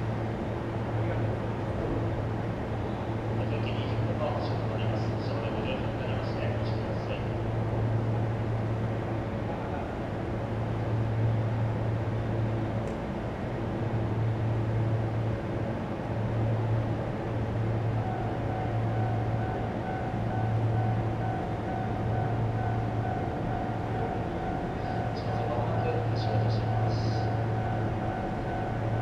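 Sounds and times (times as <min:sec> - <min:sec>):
electric train hum: 0:00.0 - 0:29.0.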